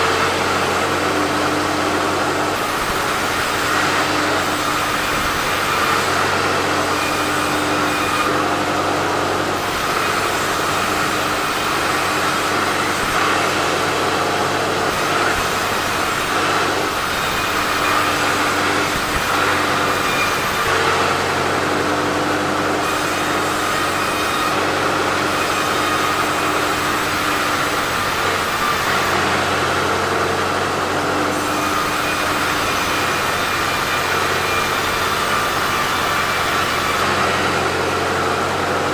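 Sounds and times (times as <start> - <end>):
sawmill saw cutting logs: 0.0 - 38.9.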